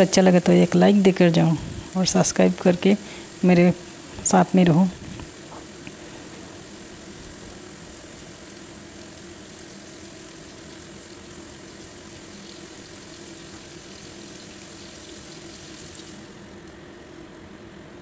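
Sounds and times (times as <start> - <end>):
fish sizzling in oil: 0.0 - 16.6.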